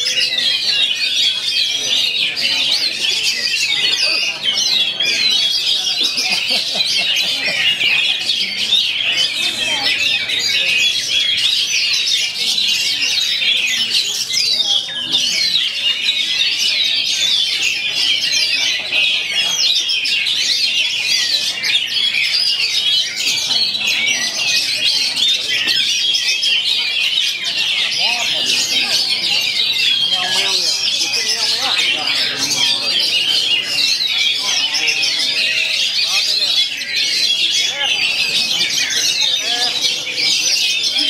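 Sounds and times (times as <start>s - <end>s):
songbirds chirping and trilling: 0.0s - 41.0s.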